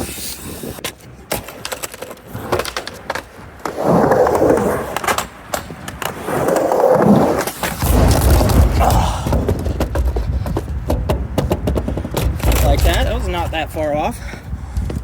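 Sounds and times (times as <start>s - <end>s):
skateboard clacking: 0.0s - 15.0s
skateboard wheels rolling on ramp: 0.0s - 15.0s.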